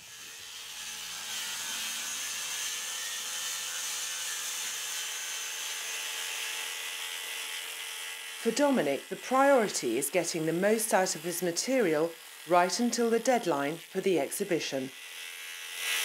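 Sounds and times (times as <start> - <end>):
power sander on stone: 0.0 - 16.0.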